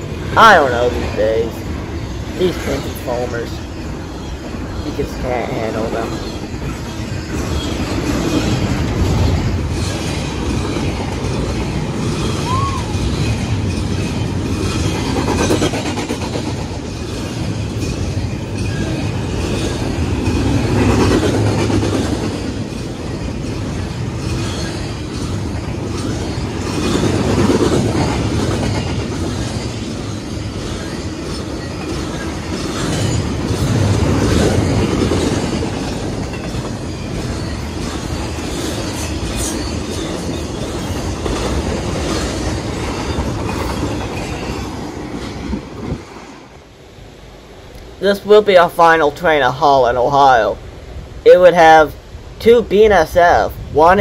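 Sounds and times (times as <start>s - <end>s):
freight train wheel-on-rail noise: 0.0s - 54.0s.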